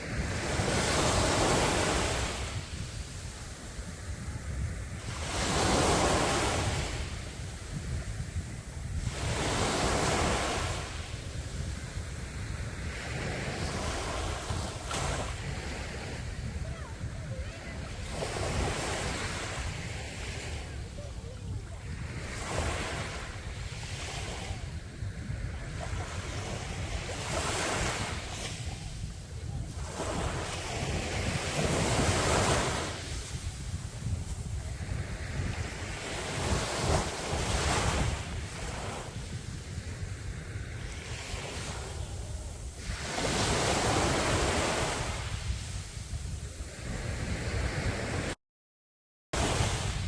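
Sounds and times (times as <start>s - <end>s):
sea waves breaking on beach: 0.0s - 48.4s, 49.4s - 50.0s
wind buffeting microphone: 0.0s - 48.4s, 49.4s - 50.0s.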